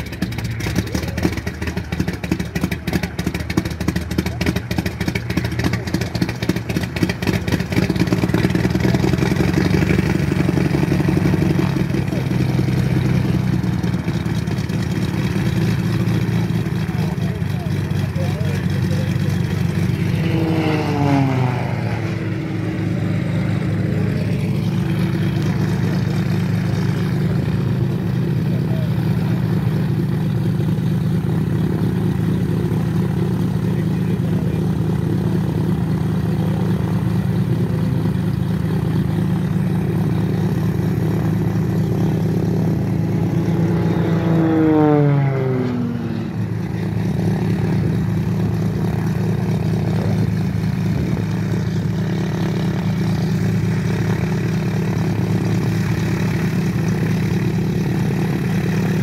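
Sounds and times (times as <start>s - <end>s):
propeller plane engine idling: 0.0s - 59.0s.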